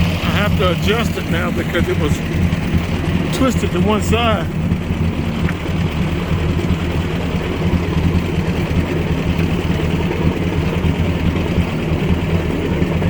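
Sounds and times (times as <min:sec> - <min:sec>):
tractor engine running steadily: 0:00.0 - 0:13.0.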